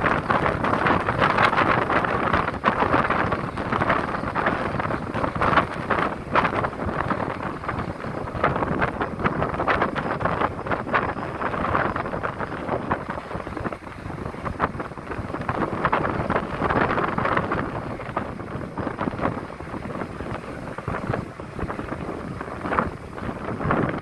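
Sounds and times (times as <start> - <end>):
wind gusting over microphone: 0.0 - 24.0.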